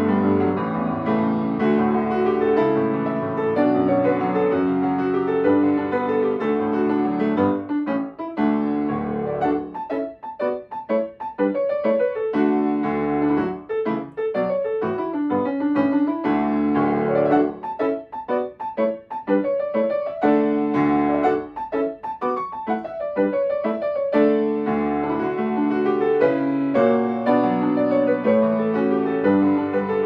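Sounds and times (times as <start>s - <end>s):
solo piano piece: 0.0s - 30.0s.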